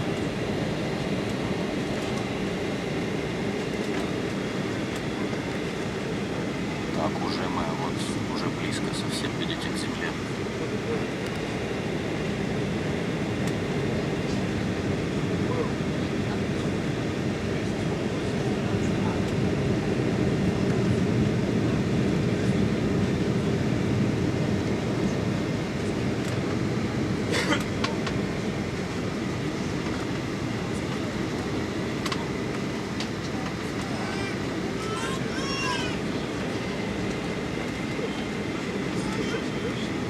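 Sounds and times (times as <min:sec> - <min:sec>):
airliner cabin roar: 0:00.0 - 0:40.0
airplane engine rumble: 0:00.0 - 0:40.0.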